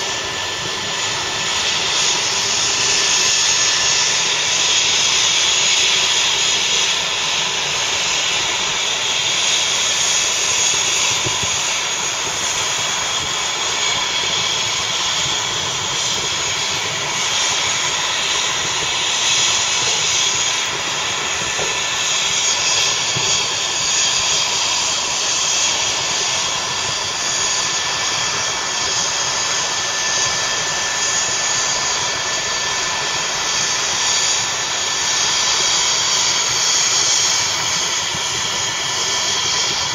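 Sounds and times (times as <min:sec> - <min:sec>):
turbine engine whine: 0:00.0 - 0:39.9.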